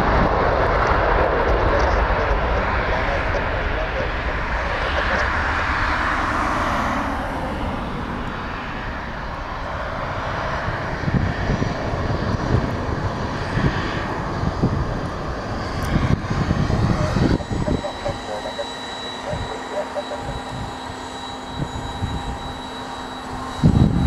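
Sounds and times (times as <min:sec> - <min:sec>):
jet engines roaring at takeoff: 0:00.0 - 0:24.0.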